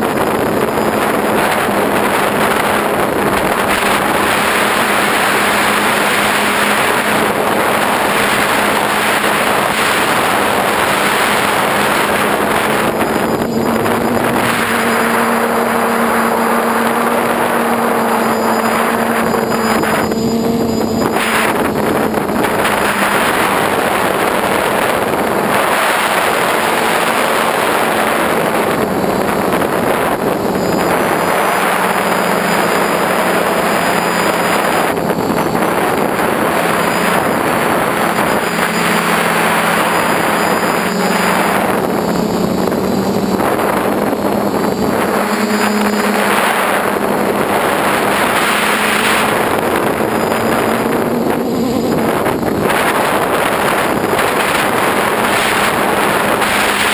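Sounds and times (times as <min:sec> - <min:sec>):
drone motors buzzing: 0:00.0 - 0:56.9
wind on microphone: 0:00.0 - 0:56.9.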